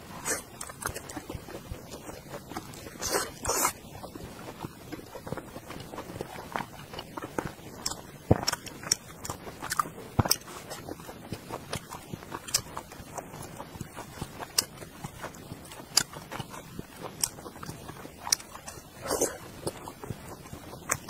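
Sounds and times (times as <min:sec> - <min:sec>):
chewing and wet mouth sounds: 0:00.0 - 0:21.0.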